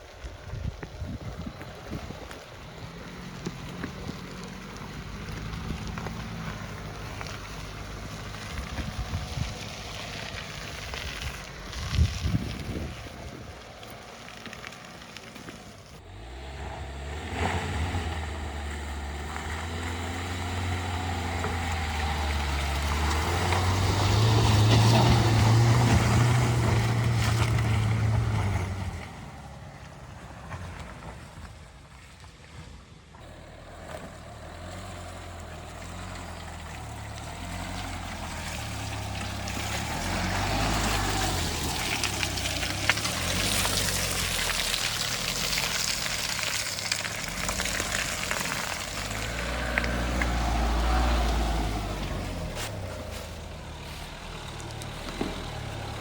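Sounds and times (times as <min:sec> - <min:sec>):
diesel engine revving: 0:00.0 - 0:31.6, 0:33.2 - 0:56.0.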